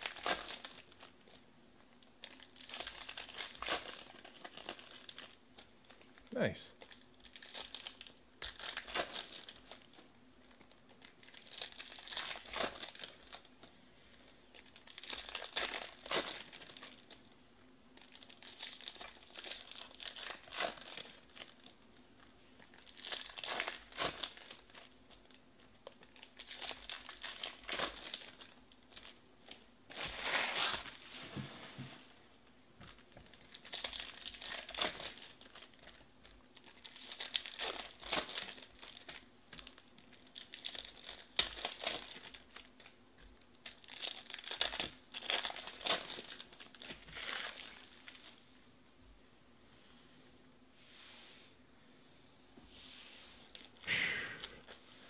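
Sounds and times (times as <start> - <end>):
foil wrappers crinkling: 0.0 - 1.4, 2.0 - 13.7, 14.5 - 21.8, 22.6 - 31.4, 32.8 - 48.4, 53.4 - 55.0.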